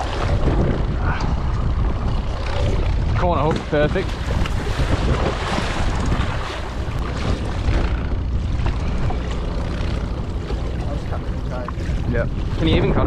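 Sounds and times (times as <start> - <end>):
water splashing against boat: 0.0 - 13.0
wind buffeting microphone: 0.0 - 13.0.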